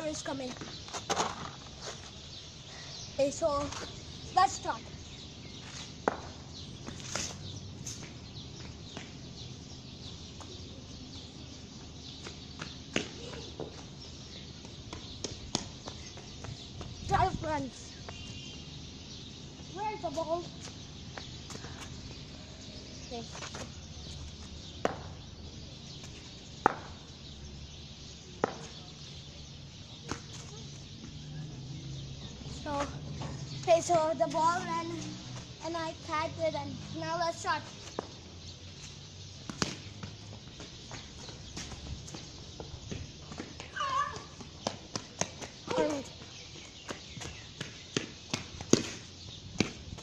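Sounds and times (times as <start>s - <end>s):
outdoor background noise: 0.0s - 50.0s
small birds chirping: 0.0s - 50.0s.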